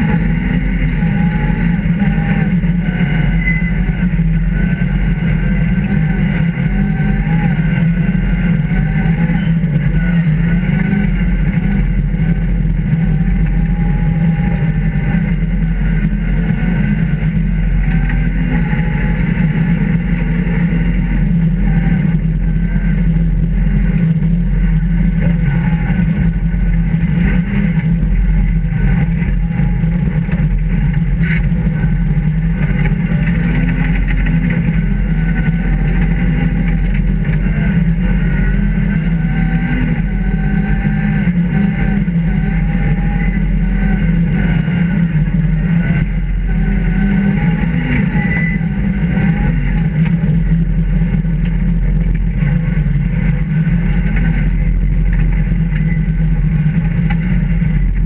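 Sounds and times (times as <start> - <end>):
rally car engine running hard: 0.0 - 58.0.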